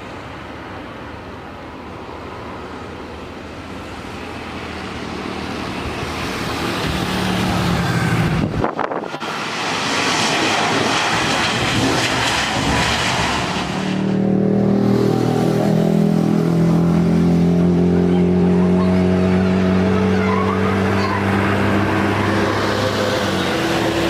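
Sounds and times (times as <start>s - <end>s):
airliner engines roaring: 0.0s - 24.0s
droning engine hum: 0.0s - 24.0s.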